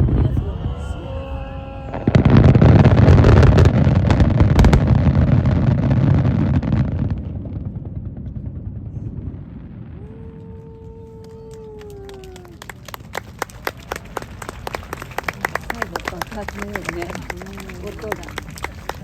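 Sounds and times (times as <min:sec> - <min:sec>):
fireworks bangs and crackles: 0:00.0 - 0:19.0
fireworks rumble: 0:00.0 - 0:19.0.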